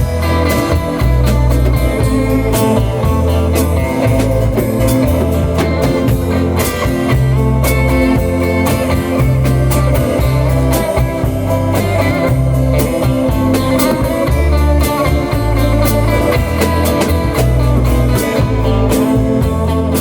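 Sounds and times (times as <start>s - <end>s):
lead guitar: 0.0s - 20.0s
rock band instrumental: 0.0s - 20.0s.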